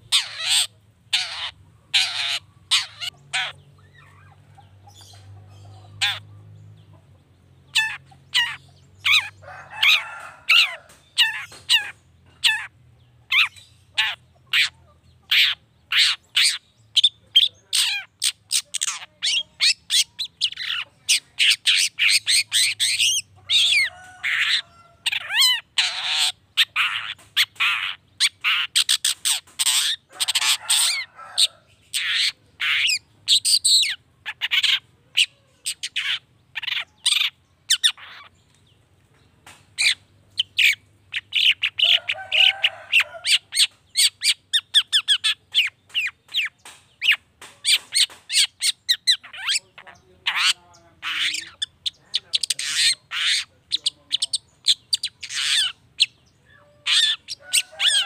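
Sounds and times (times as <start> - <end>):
bird harsh chattering song: 0.0 - 58.0.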